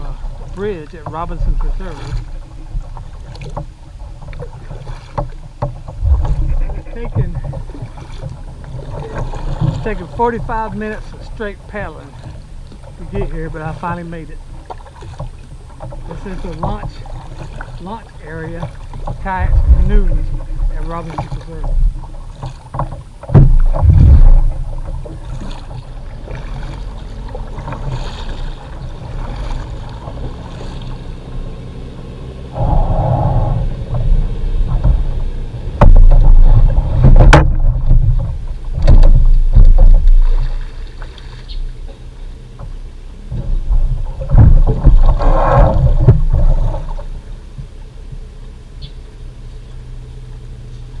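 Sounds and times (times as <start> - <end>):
low rumble: 0.0 - 14.7, 15.3 - 22.4, 23.1 - 49.4
kayak scraping on sand: 0.0 - 31.8, 32.4 - 47.4.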